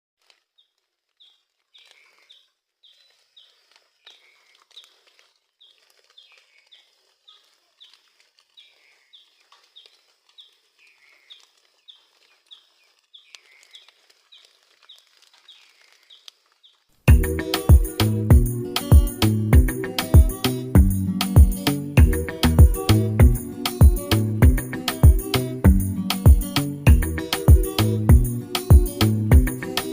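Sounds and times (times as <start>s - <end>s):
bird chirping: 0.6s - 29.9s.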